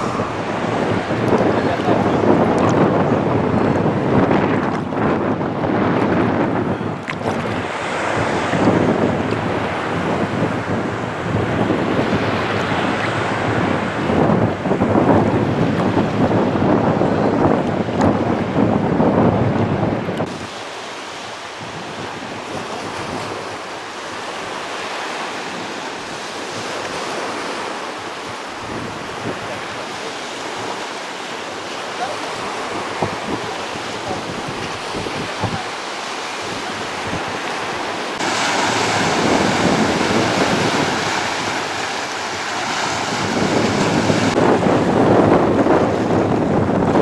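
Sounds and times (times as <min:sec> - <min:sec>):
surf washing onto beach: 0:00.0 - 0:47.0
wind buffeting microphone: 0:00.0 - 0:47.0.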